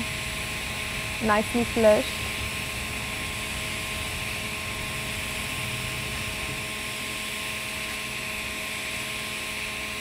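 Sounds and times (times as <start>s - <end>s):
electrical hum: 0.0s - 10.0s
welding arc hissing: 0.0s - 10.0s.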